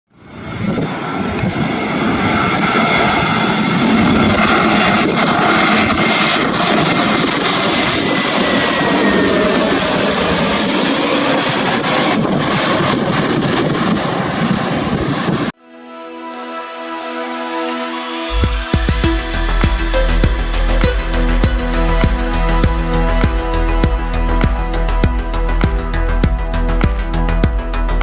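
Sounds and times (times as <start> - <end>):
jet engines running: 0.2 - 15.6, 16.3 - 28.0.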